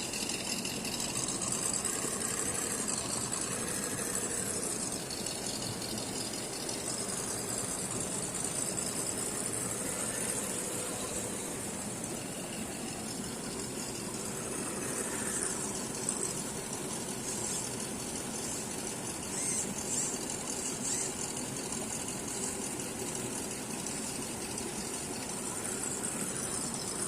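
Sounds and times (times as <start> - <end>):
electric motor high whine: 0.0 - 27.0.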